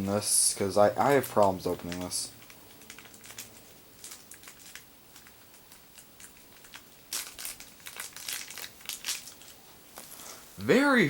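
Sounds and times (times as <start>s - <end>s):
plastic packaging crinkling: 1.0s - 10.4s.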